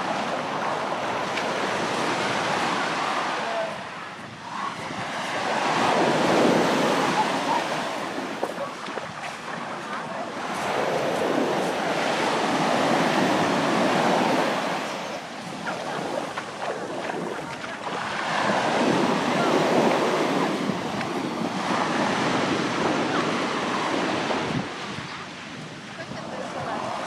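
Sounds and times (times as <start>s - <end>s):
sea waves breaking: 0.0s - 27.0s
wind on microphone: 0.0s - 27.0s.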